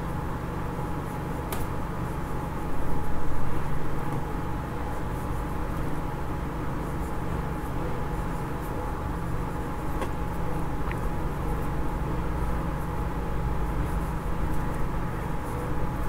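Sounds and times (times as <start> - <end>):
low background rumble and hum: 0.0 - 16.0.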